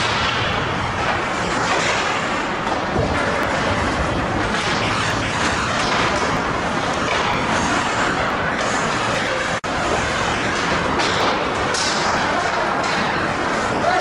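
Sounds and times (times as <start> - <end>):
ice rink din: 0.0 - 14.0
knocks of sticks puck and skates: 0.0 - 14.0.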